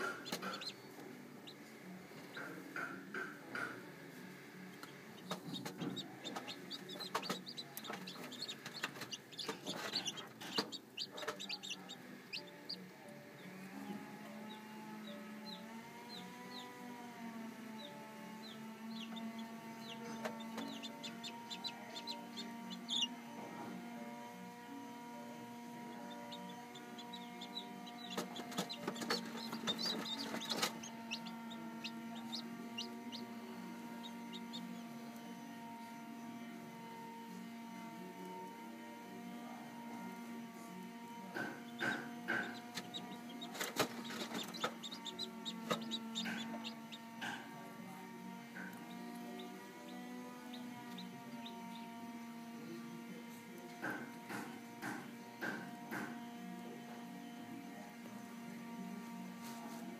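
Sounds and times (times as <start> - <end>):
steady low hum: 0.0 - 36.7, 37.9 - 53.6
chicks peeping: 0.0 - 59.6.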